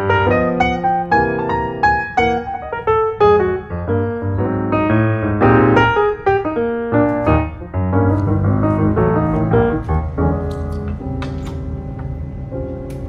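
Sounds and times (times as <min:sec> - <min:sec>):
piano melody over low notes: 0:00.0 - 0:13.0.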